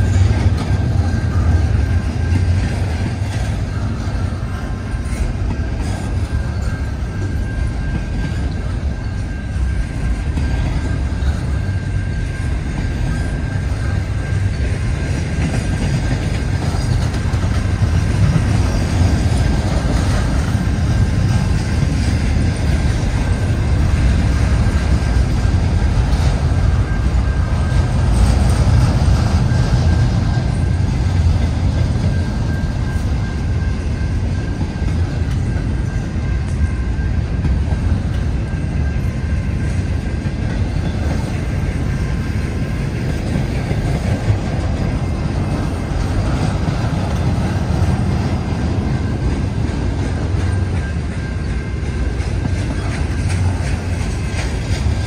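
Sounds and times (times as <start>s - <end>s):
steel train wheels rumbling on rail: 0.0s - 55.0s.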